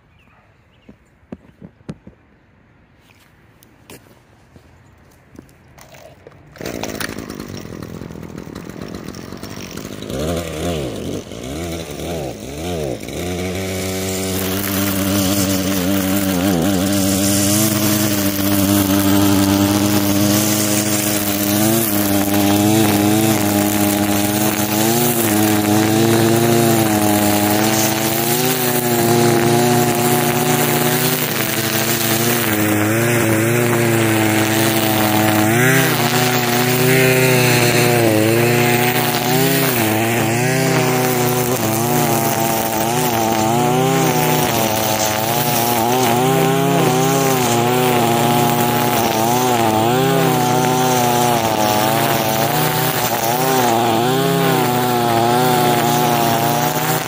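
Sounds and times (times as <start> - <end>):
string trimmer revving and cutting: 5.8 - 57.0.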